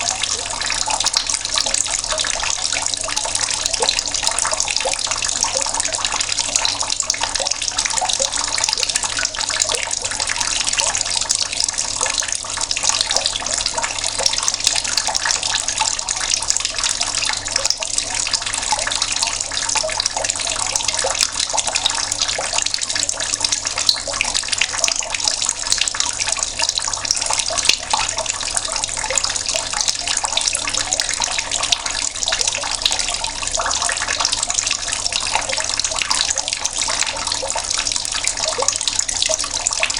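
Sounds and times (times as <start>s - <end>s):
tap water running and splashing: 0.0s - 39.9s.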